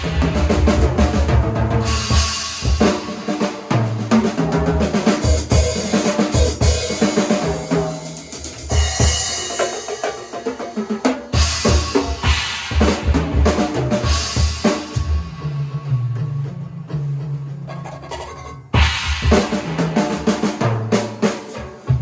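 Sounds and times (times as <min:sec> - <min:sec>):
drum kit playing rapid runs: 0:00.0 - 0:15.4, 0:18.8 - 0:22.0.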